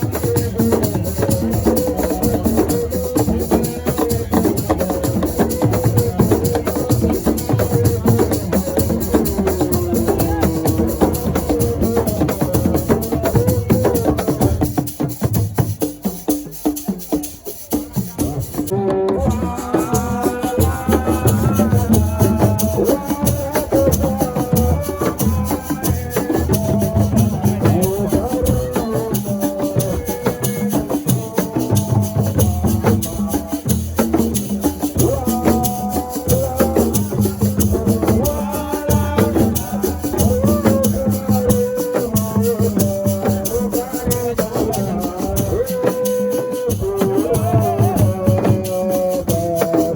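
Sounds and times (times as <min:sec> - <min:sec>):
fast dense percussion: 0:00.0 - 0:49.9
shaker rattles: 0:00.0 - 0:49.9.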